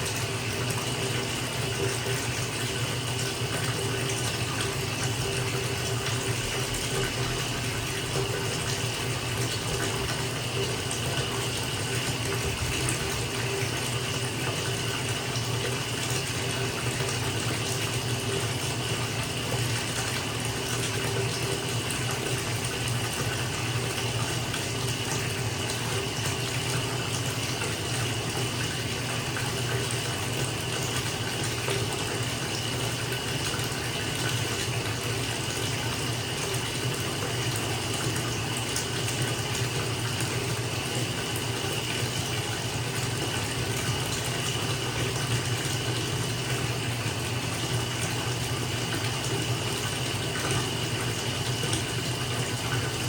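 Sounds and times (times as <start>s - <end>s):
water pouring into bathtub: 0.0s - 53.0s.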